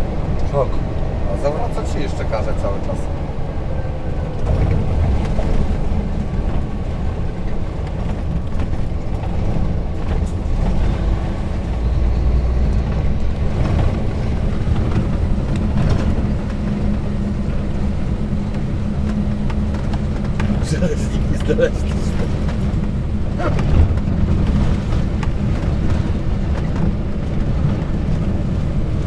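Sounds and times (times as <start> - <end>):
truck diesel engine drone: 0.0 - 29.0.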